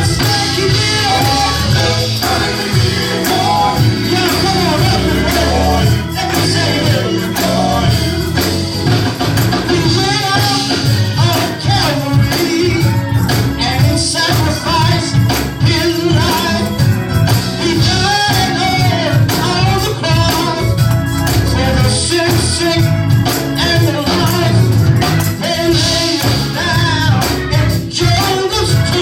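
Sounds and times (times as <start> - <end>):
gospel band playing: 0.0 - 29.0
people singing: 0.0 - 29.0.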